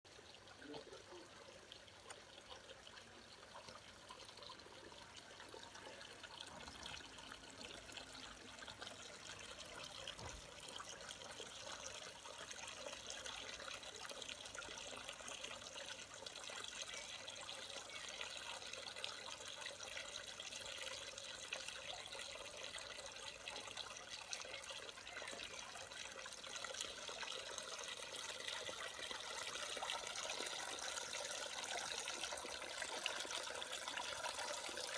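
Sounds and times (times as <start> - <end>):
waterfall splashing into pond: 0.1 - 34.9.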